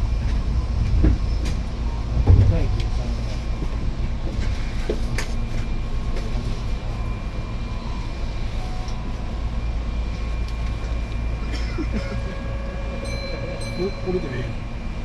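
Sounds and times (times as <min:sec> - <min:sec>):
train rumbling inside car: 0:00.0 - 0:15.0.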